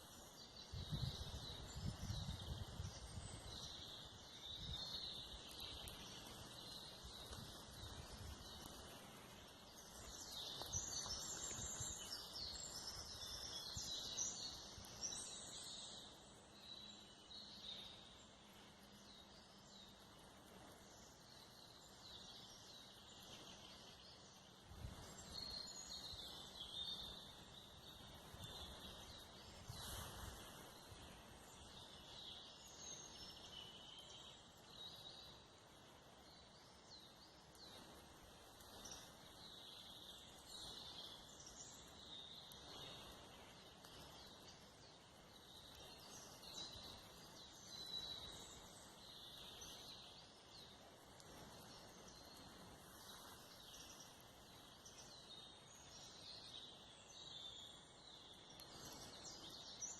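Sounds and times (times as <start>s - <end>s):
soft rustle: 0.0s - 16.5s, 17.4s - 34.2s, 36.8s - 56.4s
small birds chirping: 0.0s - 59.9s.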